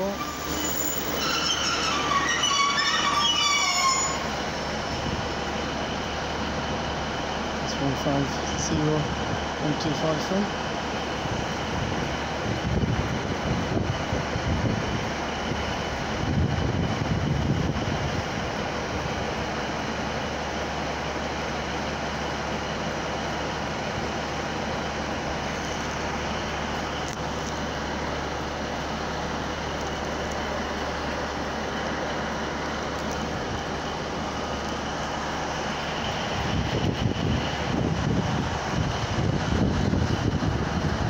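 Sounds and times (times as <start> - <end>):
train diesel engine idling: 0.0 - 41.0.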